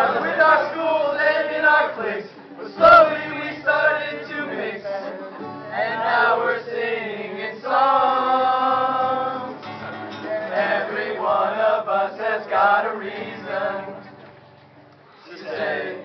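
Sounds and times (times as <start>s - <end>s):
boys singing in unison: 0.0s - 9.6s, 10.4s - 14.0s
acoustic guitar: 0.0s - 16.0s.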